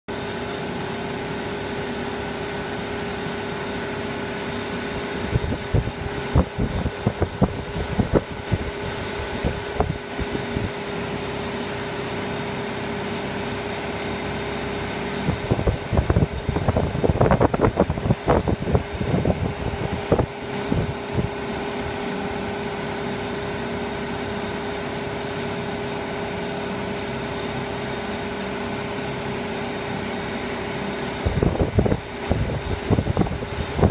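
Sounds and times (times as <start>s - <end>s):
ventilation fan humming: 0.1s - 33.9s.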